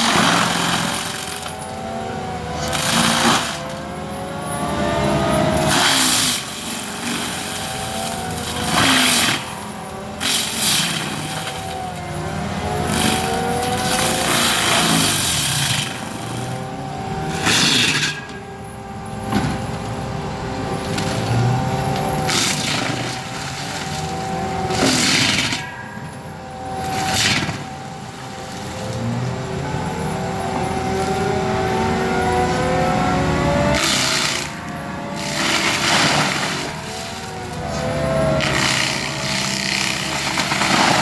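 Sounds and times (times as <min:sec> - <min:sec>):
loader engine whine: 0:00.0 - 0:41.0
mulcher grinding and chipping wood: 0:00.0 - 0:41.0.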